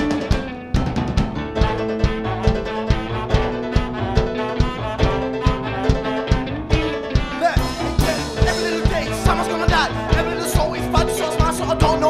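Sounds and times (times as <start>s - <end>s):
bass and chord notes: 0.0s - 12.0s
drum beat: 0.0s - 12.0s
sliding melody line: 0.0s - 12.0s.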